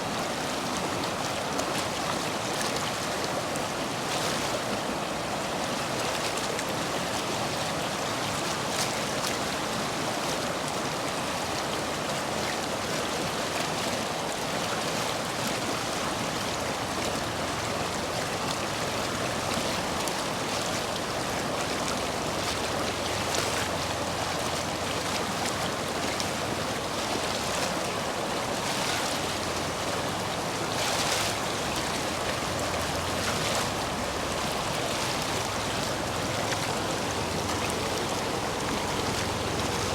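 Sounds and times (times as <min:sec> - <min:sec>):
stream water rushing over stones: 0:00.0 - 0:39.9.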